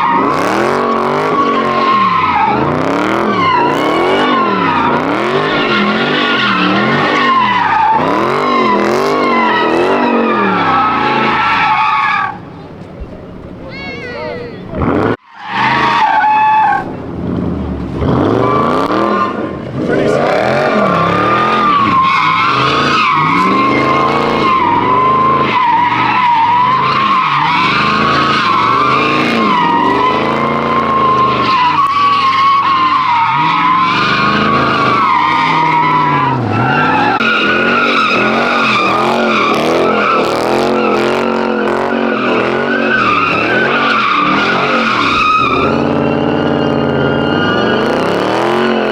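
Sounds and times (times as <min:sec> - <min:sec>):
engine at high revs: 0:00.0 - 0:13.6, 0:14.2 - 0:16.1, 0:16.7 - 0:48.9
tyres screeching: 0:00.0 - 0:48.9.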